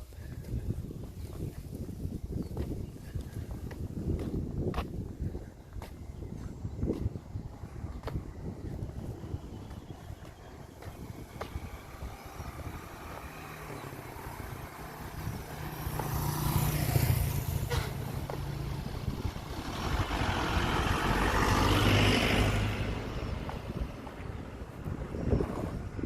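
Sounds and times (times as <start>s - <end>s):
vehicles passing by: 0.0s - 26.0s.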